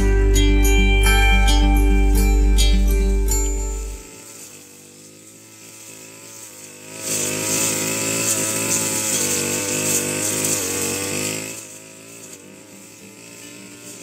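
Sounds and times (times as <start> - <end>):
brush cutter engine: 0.0 - 14.0.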